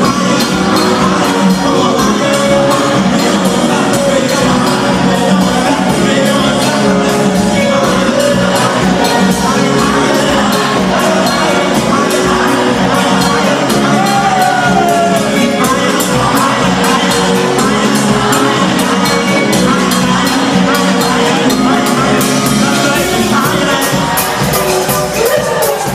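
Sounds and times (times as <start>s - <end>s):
drum kit beat: 0.0s - 25.9s
gospel band playing: 0.0s - 25.9s
keyboard: 0.0s - 25.9s
person singing: 0.0s - 25.9s.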